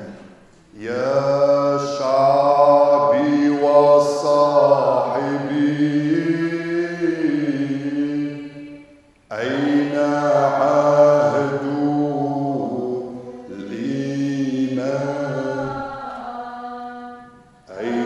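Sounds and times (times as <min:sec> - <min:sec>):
man chanting a hymn: 0:00.0 - 0:08.6, 0:09.3 - 0:16.0, 0:17.7 - 0:18.0.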